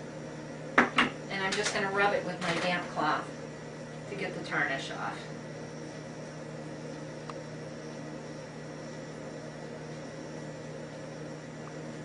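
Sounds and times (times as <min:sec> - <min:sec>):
low appliance hum: 0:00.0 - 0:12.0.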